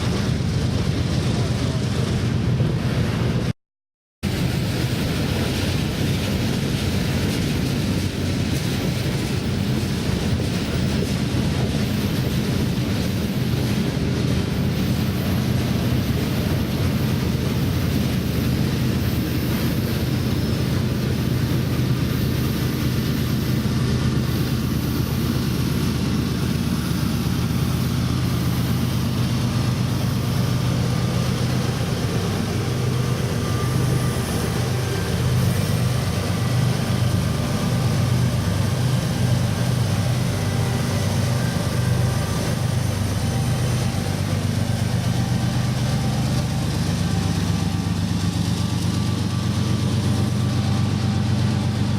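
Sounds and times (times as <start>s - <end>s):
locomotive engine drone: 0.0s - 3.5s, 4.2s - 51.9s
train rolling noise: 0.0s - 3.6s, 4.2s - 51.9s.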